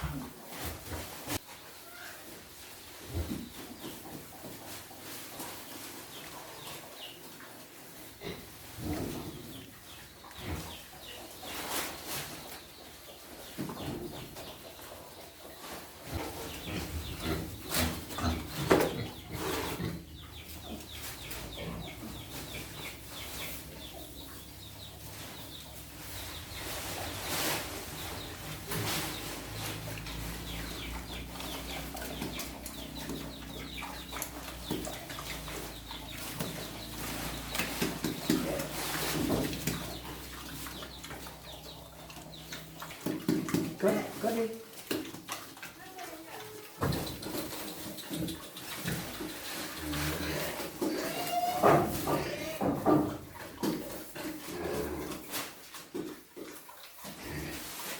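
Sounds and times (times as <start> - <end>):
small birds chirping: 1.3 - 55.0.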